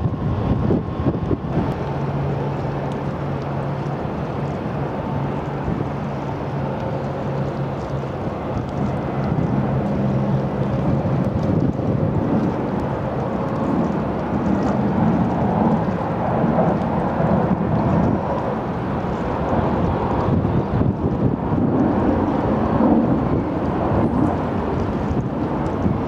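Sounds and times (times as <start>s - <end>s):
distant jet engines humming: 0.0s - 26.0s
wind noise on microphone: 0.0s - 26.0s.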